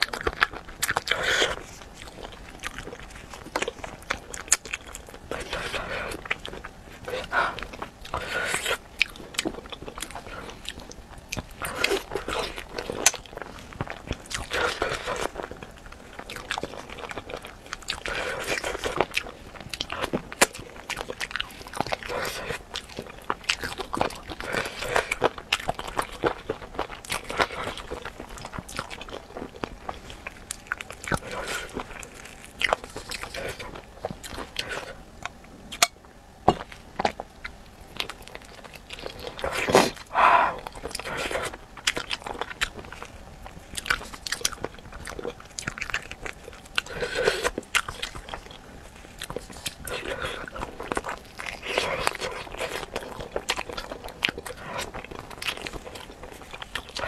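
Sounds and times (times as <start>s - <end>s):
wet biting and chewing: 0.0s - 57.0s.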